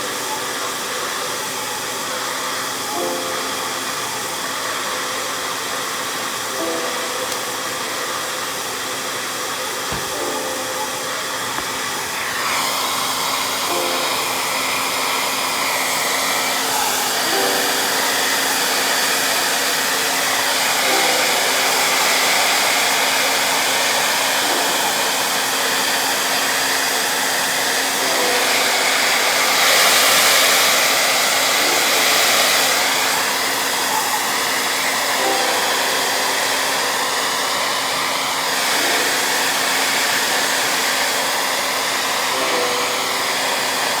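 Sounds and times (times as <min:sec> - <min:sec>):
hot-air dryer blowing: 0:00.0 - 0:44.0.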